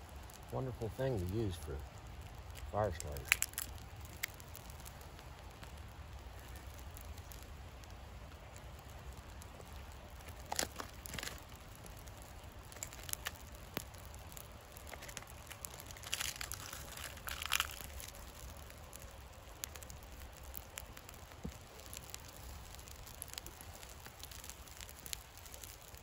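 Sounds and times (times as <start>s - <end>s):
fire crackling and popping: 0.0s - 26.0s
dry leaves and twigs rustling: 2.3s - 7.6s, 8.4s - 26.0s.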